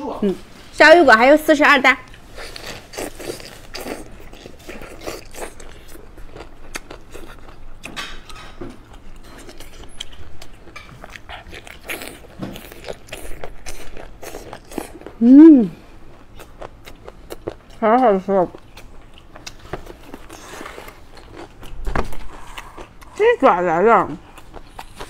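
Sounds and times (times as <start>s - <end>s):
person chewing crunchy food: 2.1s - 15.2s, 15.8s - 17.8s, 18.5s - 23.2s, 24.2s - 25.0s.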